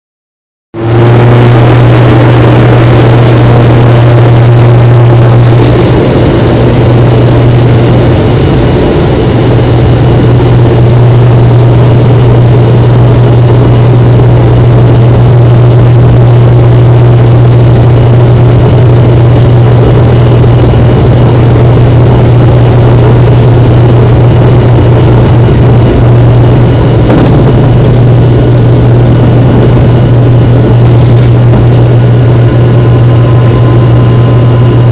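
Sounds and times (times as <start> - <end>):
propeller engines droning: 0.8 - 34.9.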